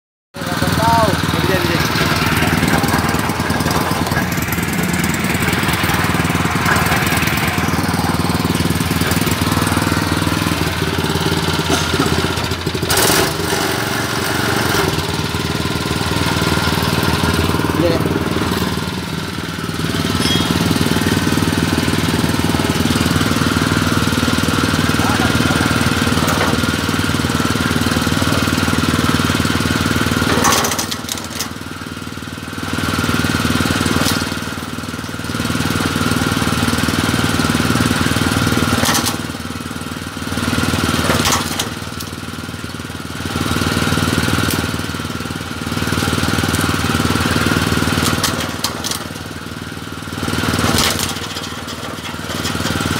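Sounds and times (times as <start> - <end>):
cutter drum grinding coconut: 0.4 - 52.9.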